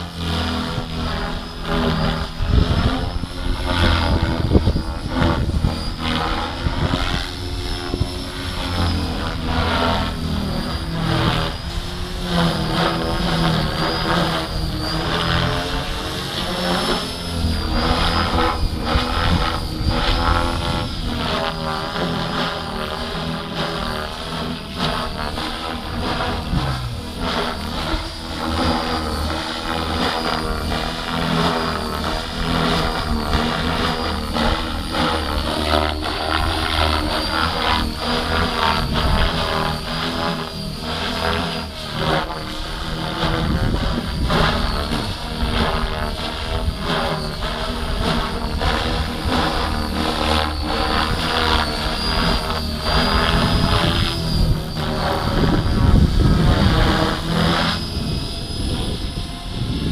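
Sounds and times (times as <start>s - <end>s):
rc helicopter motor whine: 0.0s - 59.9s
wind buffeting microphone: 0.0s - 59.9s.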